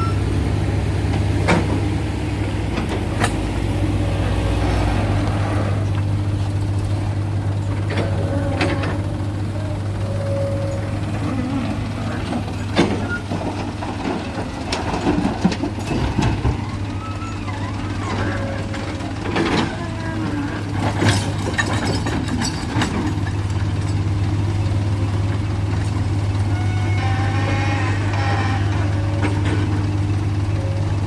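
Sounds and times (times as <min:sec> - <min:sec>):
heavy engine humming: 0:00.0 - 0:31.0.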